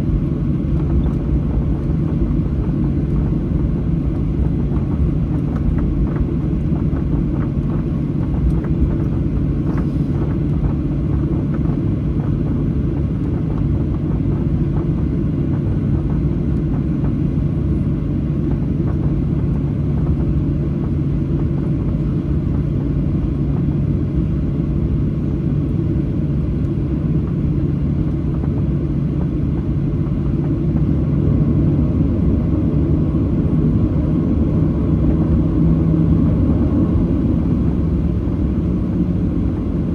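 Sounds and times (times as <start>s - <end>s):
aircraft cabin low rumble: 0.0s - 39.9s
jet engines humming: 0.0s - 39.9s.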